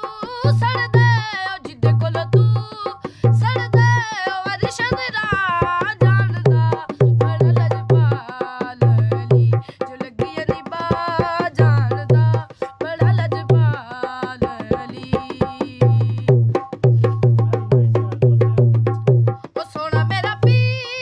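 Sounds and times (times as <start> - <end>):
boy singing: 0.0 - 21.0
hand drum beat: 0.0 - 21.0.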